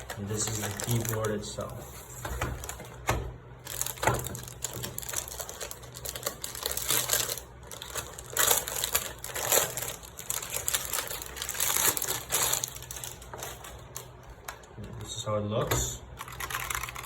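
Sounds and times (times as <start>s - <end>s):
plastic wrapping crinkling: 0.0s - 15.2s, 16.1s - 17.0s.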